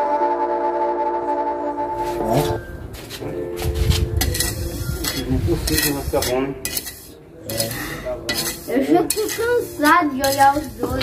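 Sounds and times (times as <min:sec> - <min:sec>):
trowel scraping mortar and bricks: 0:02.0 - 0:11.0.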